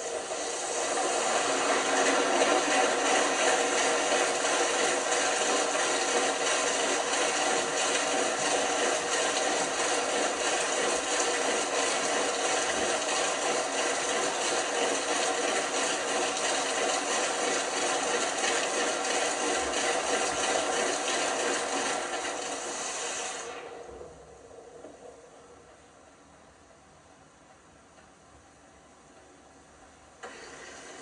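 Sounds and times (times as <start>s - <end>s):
washing machine whirring: 0.0s - 31.0s.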